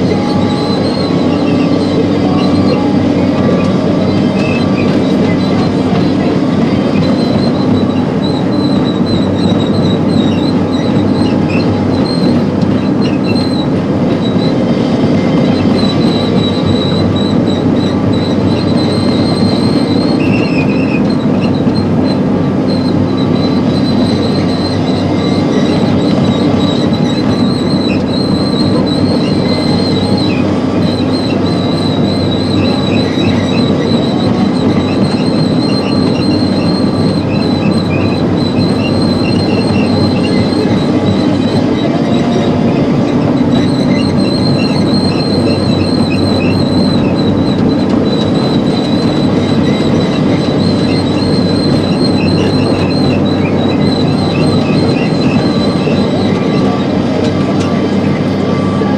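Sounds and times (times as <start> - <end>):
diesel engine running: 0.0 - 58.9
high whine: 0.0 - 58.9
tracks clanking and squeaking: 0.0 - 58.9.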